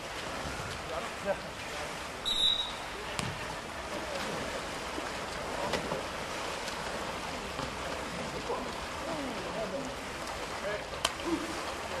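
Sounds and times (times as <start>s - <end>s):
pool water splashing: 0.0s - 12.0s.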